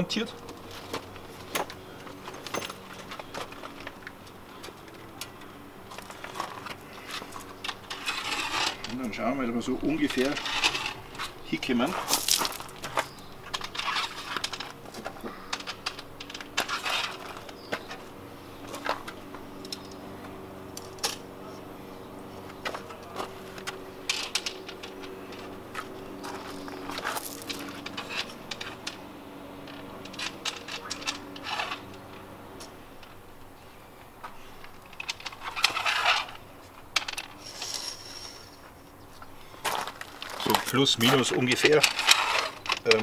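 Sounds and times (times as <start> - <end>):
faint steady hum: 0.0 - 43.0
metallic clinks and scrapes: 1.4 - 21.4, 22.7 - 33.2, 34.3 - 38.7, 40.1 - 43.0.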